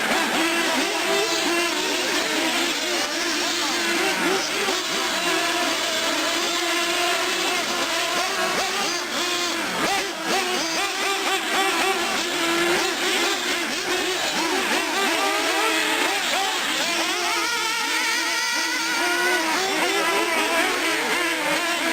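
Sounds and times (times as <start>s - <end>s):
model car engines revving: 0.0s - 21.9s.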